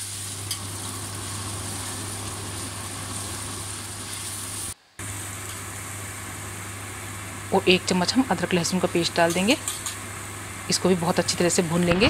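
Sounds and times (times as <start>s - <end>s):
onion paste sizzling in oil: 0.0s - 12.0s.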